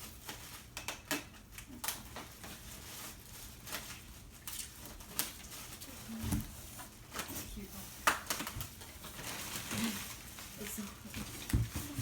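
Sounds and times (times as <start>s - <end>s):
wrapping paper rustling: 0.0s - 12.0s.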